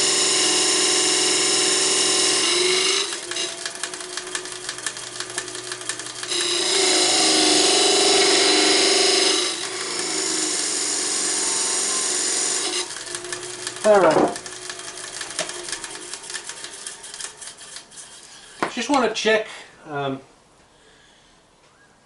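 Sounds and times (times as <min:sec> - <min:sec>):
wood lathe running: 0:00.0 - 0:18.7
turning tool cutting wood: 0:00.0 - 0:19.0.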